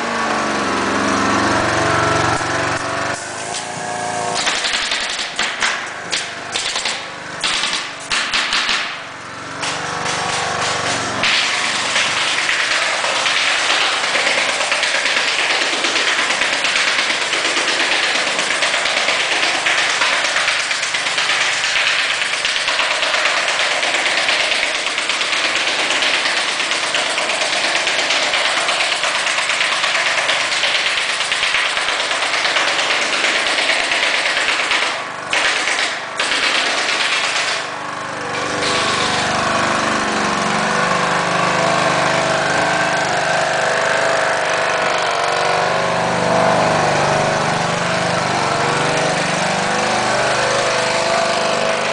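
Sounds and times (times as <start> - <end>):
air compressor running: 0.0 - 51.9.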